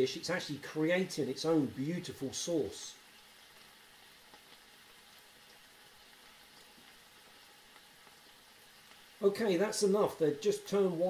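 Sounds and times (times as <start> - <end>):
food simmering in frying pan: 0.0 - 11.0.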